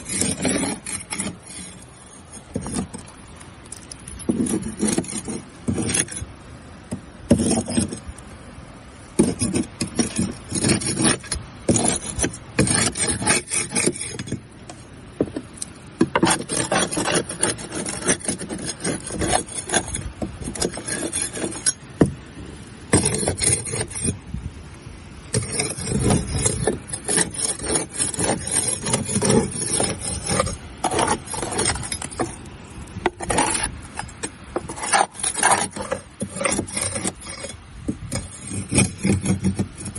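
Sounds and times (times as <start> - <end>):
scraper rasping over shells: 0.0 - 8.2, 9.2 - 24.2, 25.3 - 39.9.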